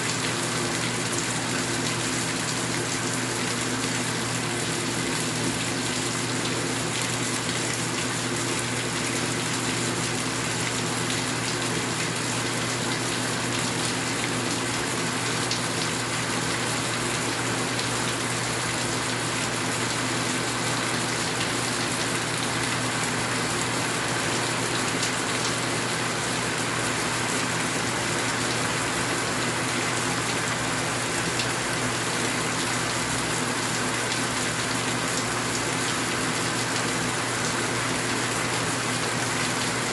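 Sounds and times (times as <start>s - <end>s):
steady rain falling: 0.1s - 39.9s.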